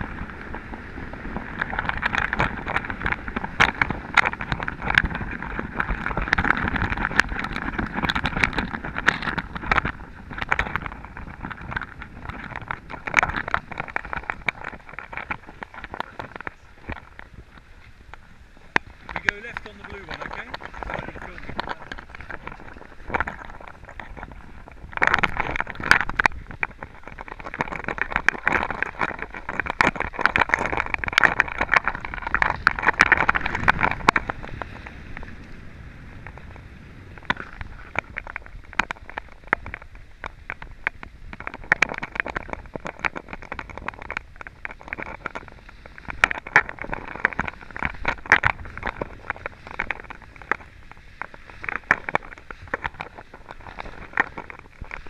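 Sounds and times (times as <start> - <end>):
skis scraping over snow: 0.0 - 55.0.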